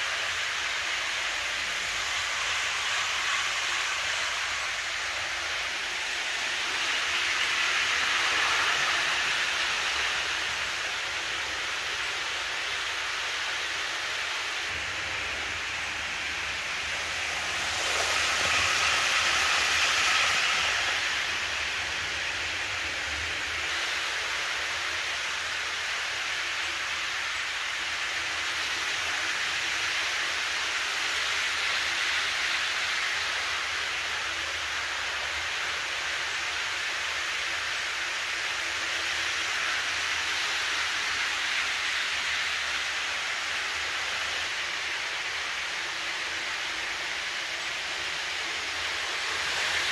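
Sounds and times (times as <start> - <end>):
model train rolling hiss: 0.0 - 49.9.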